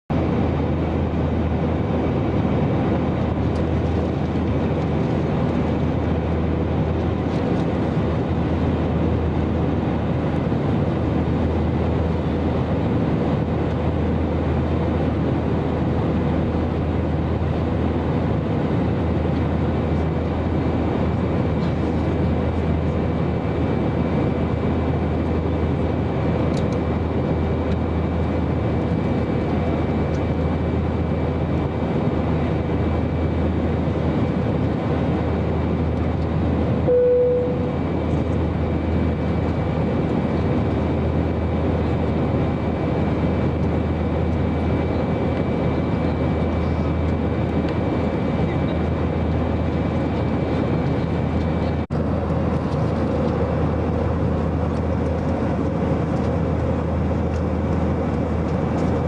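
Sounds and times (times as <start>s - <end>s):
airliner engines droning: 0.1s - 59.0s.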